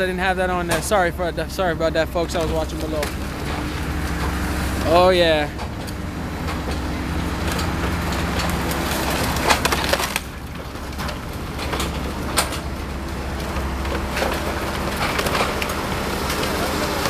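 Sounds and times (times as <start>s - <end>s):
debris cracking: 0.0s - 17.0s
excavator engine running: 0.0s - 17.0s
wood splintering: 0.0s - 17.0s.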